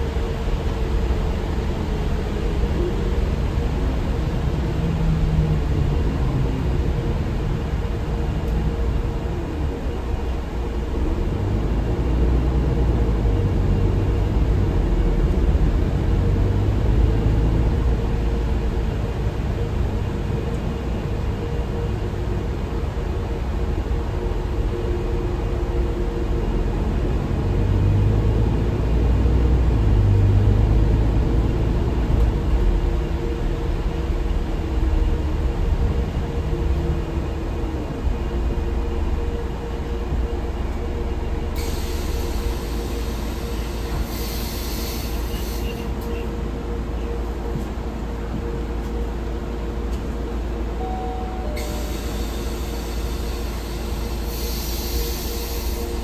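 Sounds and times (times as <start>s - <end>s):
bus engine rumble: 0.0s - 56.0s
road noise: 0.0s - 56.0s.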